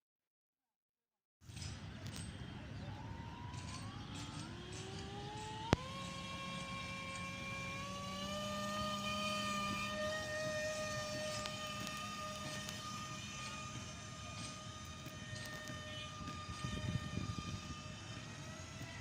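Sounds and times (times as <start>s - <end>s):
model plane motor whine: 1.5s - 19.0s.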